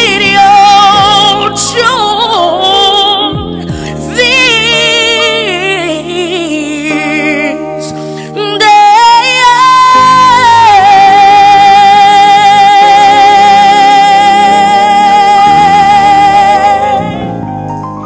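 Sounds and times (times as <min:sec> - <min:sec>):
person singing gospel: 0:00.0 - 0:17.6
backing music: 0:00.0 - 0:18.0.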